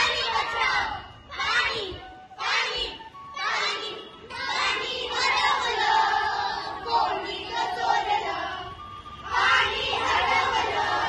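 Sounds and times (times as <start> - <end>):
children's voices in unison: 0.0 - 8.7, 9.3 - 11.0.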